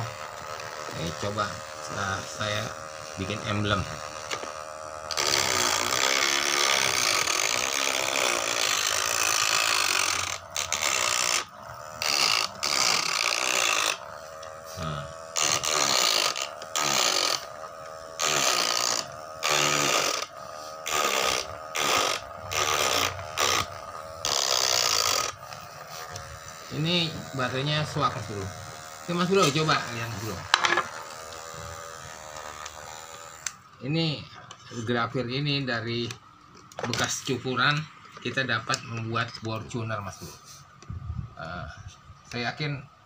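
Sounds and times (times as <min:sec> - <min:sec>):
small drill grinding wood: 0:00.0 - 0:42.9.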